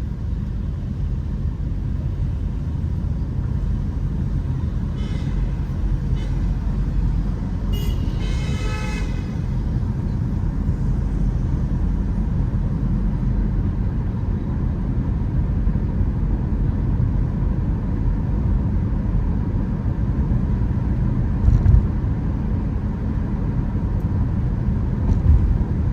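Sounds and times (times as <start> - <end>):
car road noise rumble: 0.0 - 25.9.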